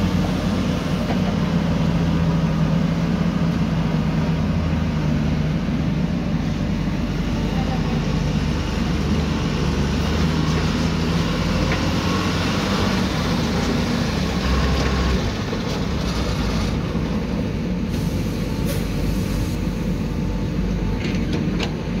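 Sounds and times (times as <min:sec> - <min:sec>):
dump truck diesel engine running: 0:00.0 - 0:22.0.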